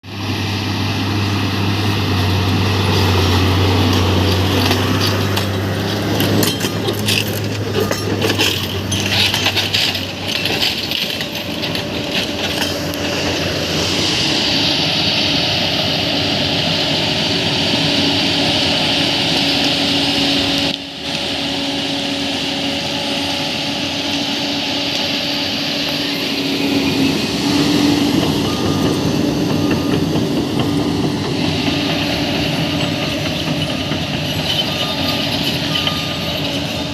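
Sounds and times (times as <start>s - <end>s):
bulldozer diesel engine under load: 0.0s - 36.9s
steel tracks clanking and squealing: 1.7s - 36.9s.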